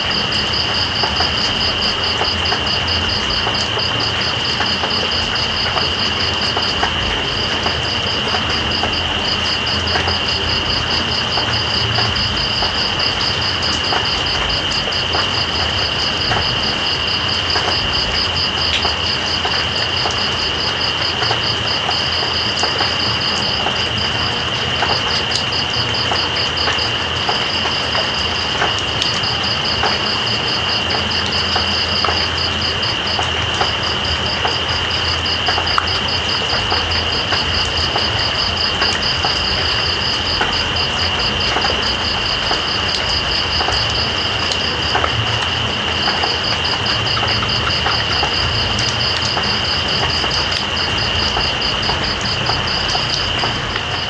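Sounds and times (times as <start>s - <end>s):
cricket trilling: 0.0s - 54.0s
rain hiss: 0.0s - 54.0s
drip ticks: 0.1s - 24.1s, 24.8s - 30.2s, 30.8s - 54.0s.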